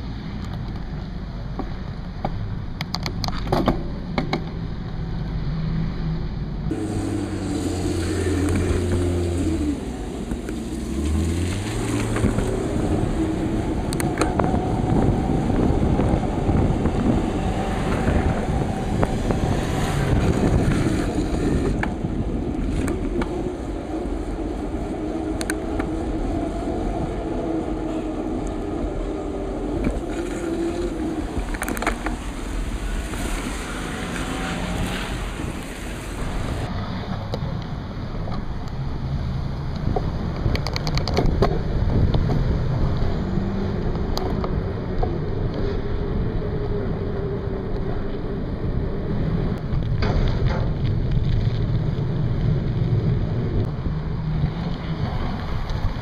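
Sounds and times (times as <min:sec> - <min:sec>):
car traffic passing: 0:00.0 - 0:56.0
wind rumbling on microphone: 0:00.0 - 0:56.0.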